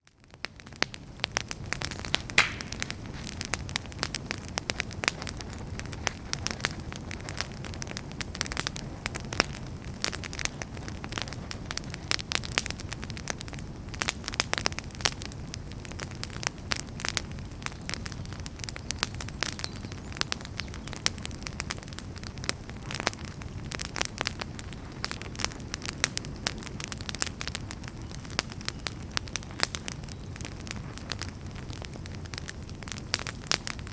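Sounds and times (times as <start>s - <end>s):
firewood crackling and popping: 0.0s - 33.9s
low rumble of flames: 0.0s - 33.9s.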